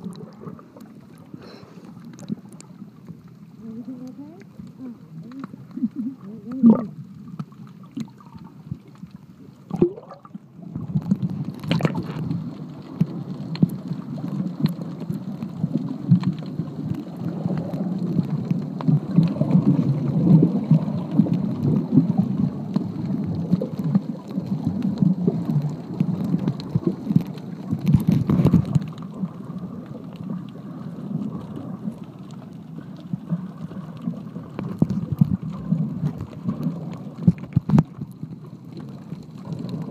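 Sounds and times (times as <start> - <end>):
underwater churning rumble: 0.0 - 39.9
underwater clicks: 4.0 - 30.6, 33.9 - 39.9.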